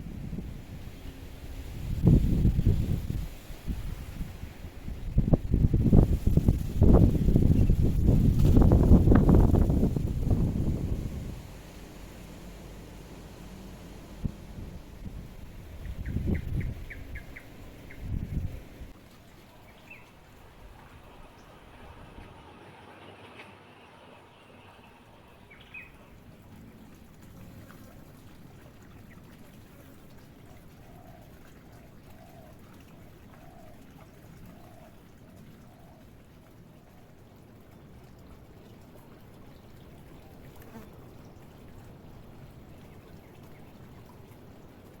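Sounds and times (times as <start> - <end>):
faint outdoor background hiss: 0.0 - 45.0.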